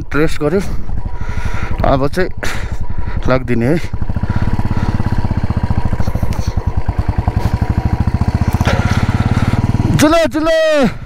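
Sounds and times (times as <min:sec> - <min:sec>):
motorcycle engine pulling away: 0:00.0 - 0:11.0.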